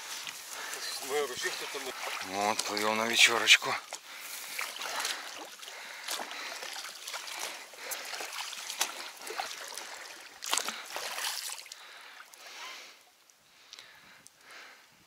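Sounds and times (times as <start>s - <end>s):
oars splashing in water: 0.0s - 12.9s
water trickling along hull: 0.0s - 14.6s.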